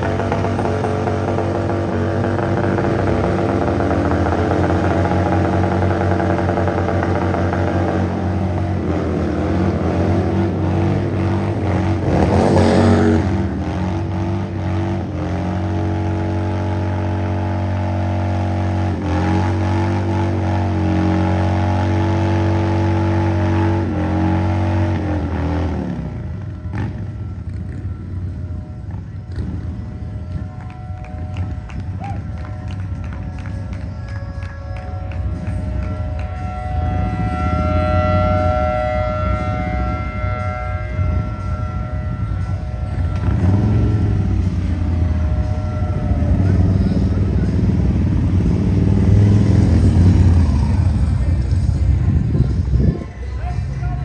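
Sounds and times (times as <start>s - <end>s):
motorcycle engine revving: 0.0s - 31.7s, 35.1s - 53.2s.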